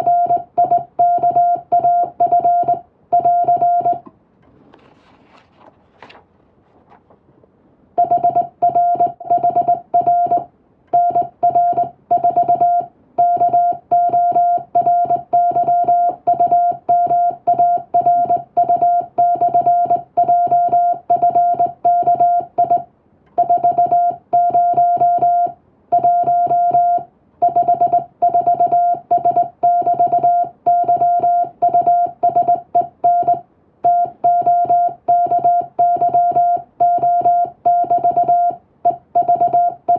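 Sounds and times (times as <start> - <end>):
morse code beeps: 0.0 - 4.0, 8.0 - 22.8, 23.4 - 39.9.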